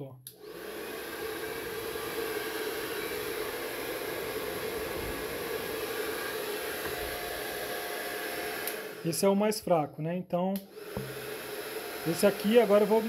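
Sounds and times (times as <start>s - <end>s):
hair dryer running: 0.3s - 9.3s, 10.6s - 13.0s.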